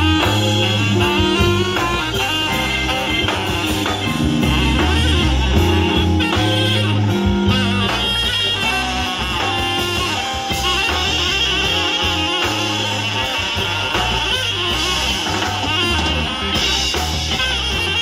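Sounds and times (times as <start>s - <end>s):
drums: 0.0s - 18.0s
saxophone soloing: 0.0s - 18.0s
walking bass line: 0.0s - 18.0s.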